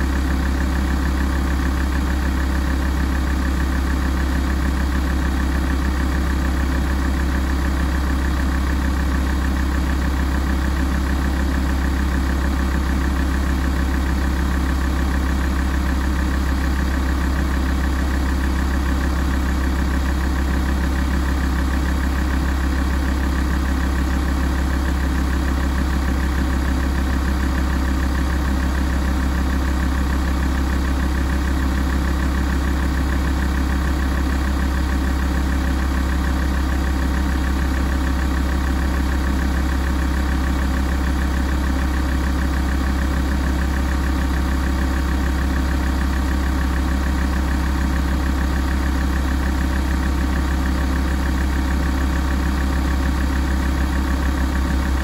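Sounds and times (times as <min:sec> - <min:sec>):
diesel car engine idling: 0:00.0 - 0:55.0.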